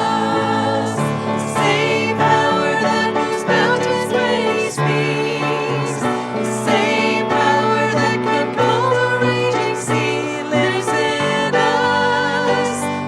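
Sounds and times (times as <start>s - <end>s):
worship song with singing: 0.0s - 13.0s.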